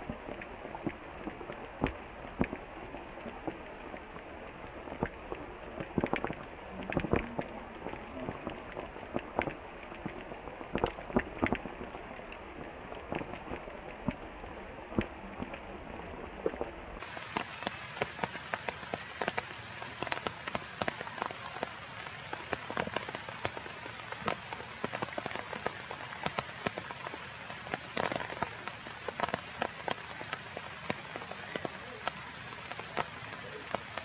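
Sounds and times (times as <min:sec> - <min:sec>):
sharp taps of raindrops: 0:00.0 - 0:14.2, 0:14.9 - 0:15.6, 0:16.4 - 0:34.0
rain hissing on foliage: 0:00.0 - 0:16.4, 0:17.0 - 0:34.0.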